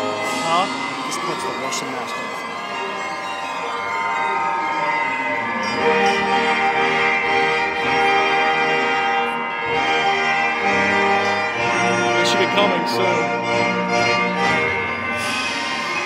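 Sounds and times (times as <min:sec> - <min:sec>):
orchestra playing held chords: 0:00.0 - 0:16.0.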